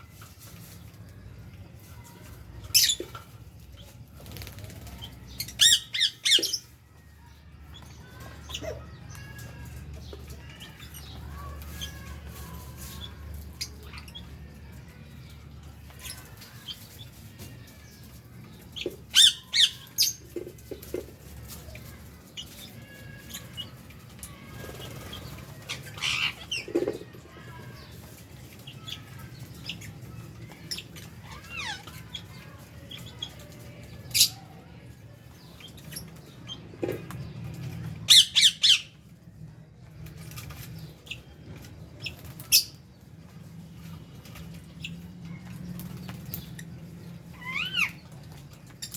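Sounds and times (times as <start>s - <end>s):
parrots chirping and squawking: 2.5s - 7.1s, 7.7s - 14.6s, 15.8s - 39.0s, 40.2s - 42.9s, 43.7s - 48.9s.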